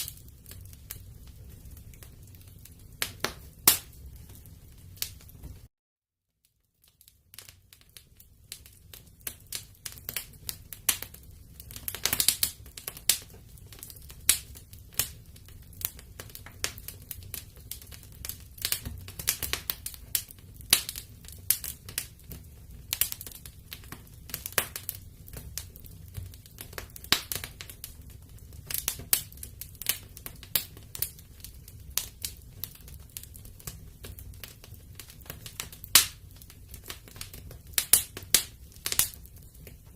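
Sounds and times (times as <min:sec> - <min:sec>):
wood fire crackling and popping: 0:00.0 - 0:05.7, 0:06.4 - 0:39.9.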